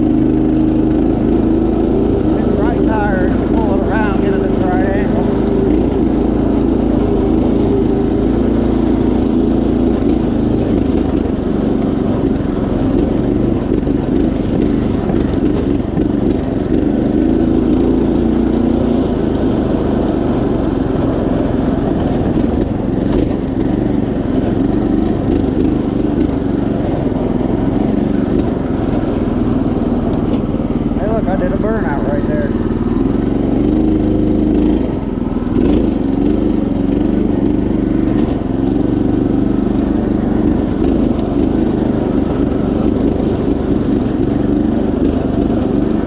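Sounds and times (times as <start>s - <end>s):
riding mower engine running: 0.0s - 46.0s.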